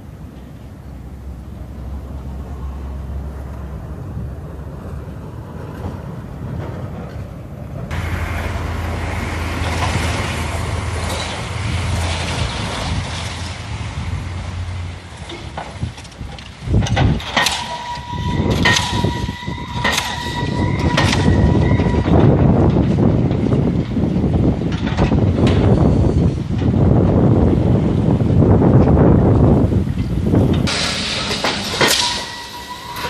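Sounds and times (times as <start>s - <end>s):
motor vehicle engine rumble: 0.0s - 33.0s.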